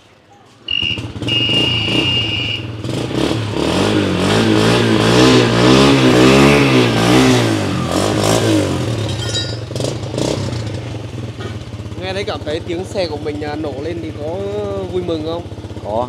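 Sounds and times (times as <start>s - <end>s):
motorbike engine revving: 0.7s - 16.0s.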